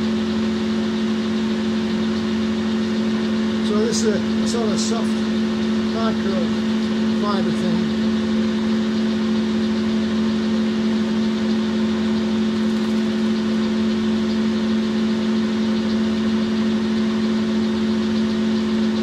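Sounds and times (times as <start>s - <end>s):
lathe running: 0.0s - 19.0s.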